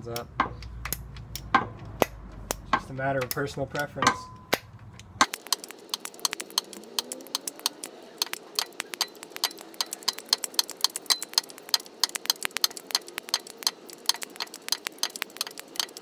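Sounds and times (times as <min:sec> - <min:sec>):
hand ratchet clicking: 0:00.0 - 0:16.0.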